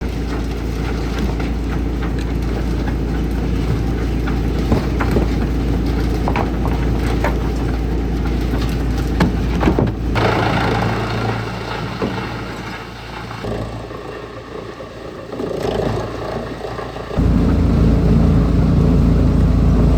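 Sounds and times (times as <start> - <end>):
wood chipper engine running: 0.0 - 19.9.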